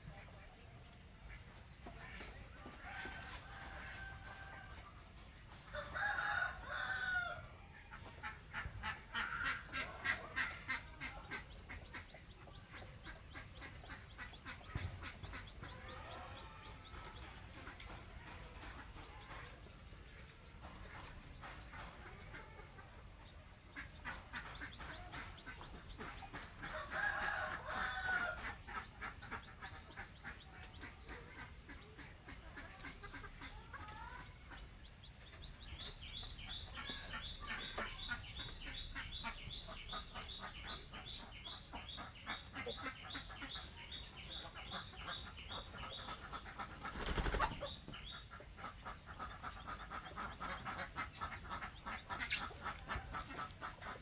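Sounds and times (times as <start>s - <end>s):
chickens clucking and calling: 0.0s - 54.0s.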